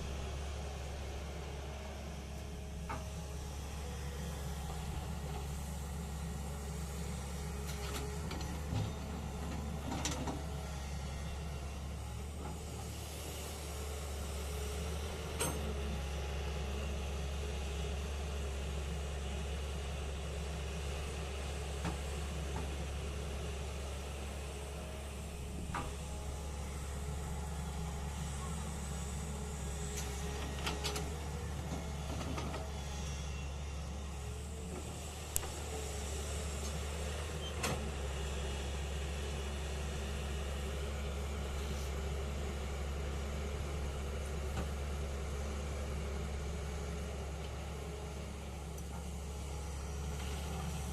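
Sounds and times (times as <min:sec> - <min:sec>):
heavy vehicle engine humming: 0:00.0 - 0:50.9.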